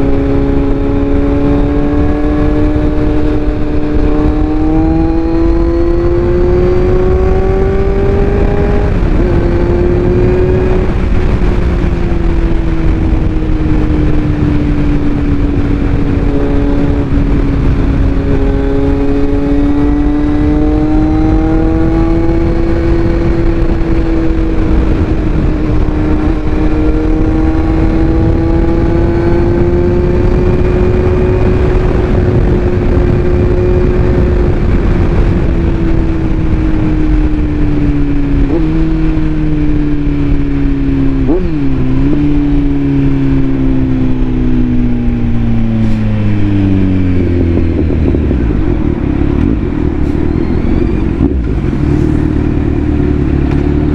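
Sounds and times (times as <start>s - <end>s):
motorcycle engine revving high: 0.0s - 53.9s.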